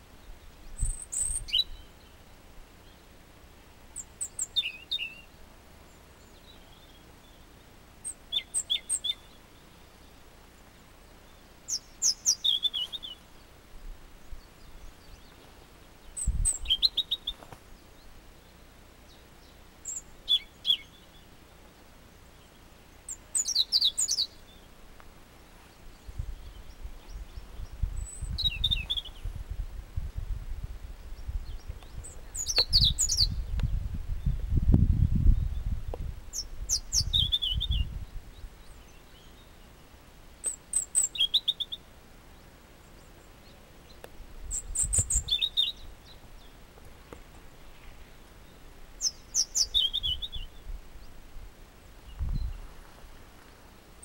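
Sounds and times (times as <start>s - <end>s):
robin singing: 0.0s - 54.0s.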